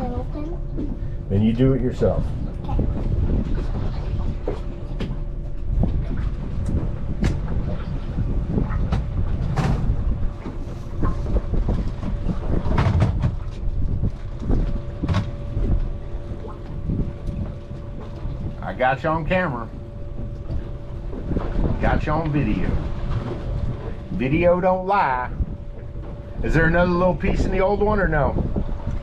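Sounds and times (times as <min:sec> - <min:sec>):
boat engine idling: 0:00.0 - 0:29.0
wind buffeting microphone: 0:00.0 - 0:29.0.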